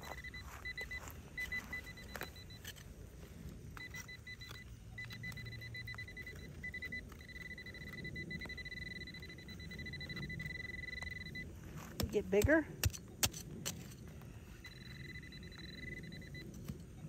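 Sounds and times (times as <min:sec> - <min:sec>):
metal detector beeping: 0:00.0 - 0:12.6, 0:13.9 - 0:17.0.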